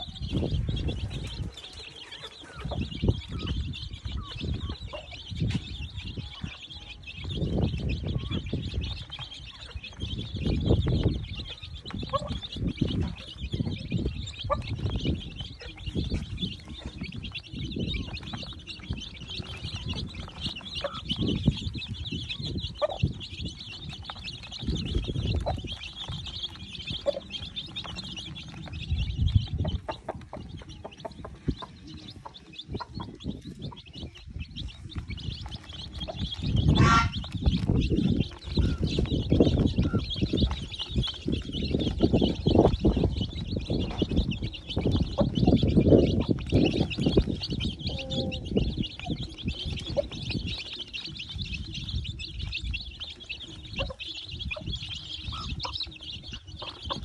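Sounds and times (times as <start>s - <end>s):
chicks peeping: 0.0s - 57.0s
hen clucking: 0.0s - 57.0s
low rumbles: 6.9s - 57.0s.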